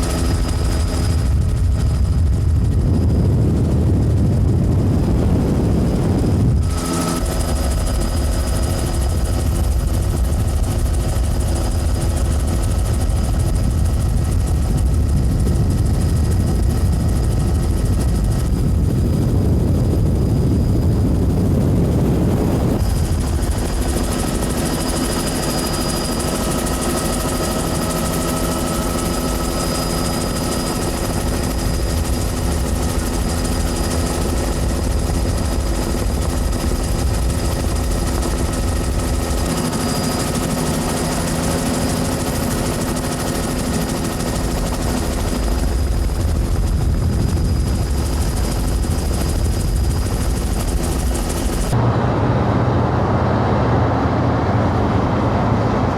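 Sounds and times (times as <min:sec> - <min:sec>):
helicopter drone and whine: 0:00.0 - 0:55.9.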